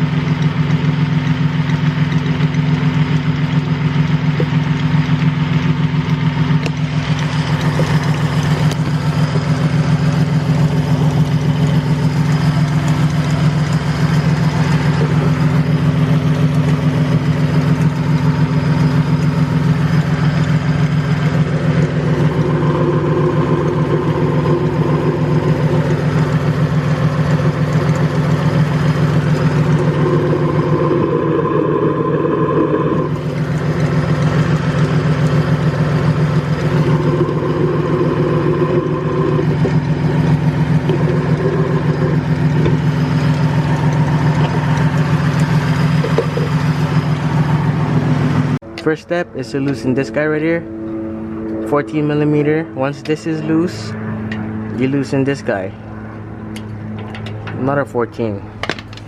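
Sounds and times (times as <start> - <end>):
engine idling: 0.0 - 59.0
high steady tone: 7.2 - 58.4.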